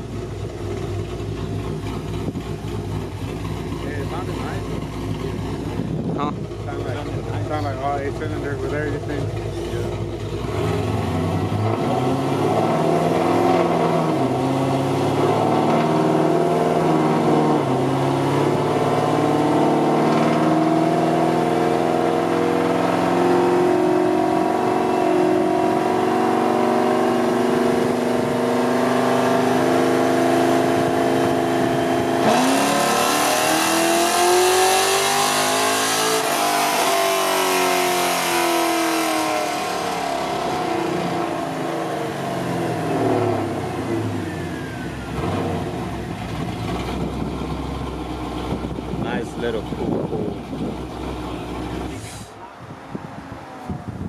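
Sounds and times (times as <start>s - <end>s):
car engine revving through gears: 1.2s - 52.4s.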